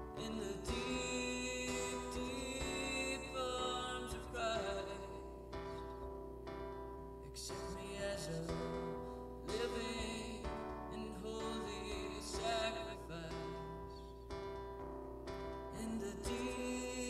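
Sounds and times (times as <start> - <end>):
slow acoustic guitar music: 0.0 - 17.0.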